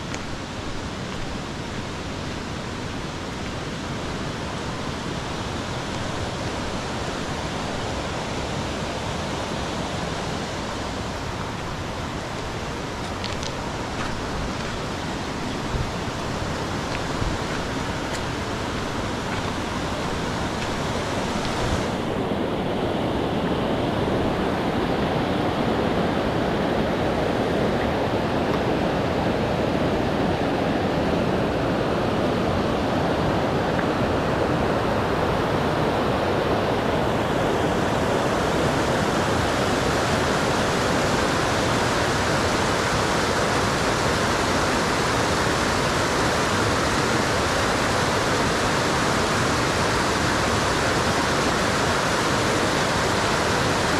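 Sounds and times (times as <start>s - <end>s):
mountain water flowing: 0.0s - 53.9s.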